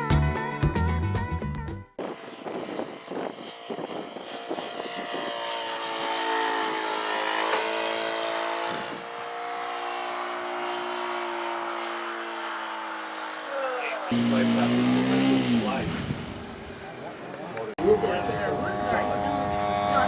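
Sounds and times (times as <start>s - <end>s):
model airplane motor drone: 2.0s - 20.0s.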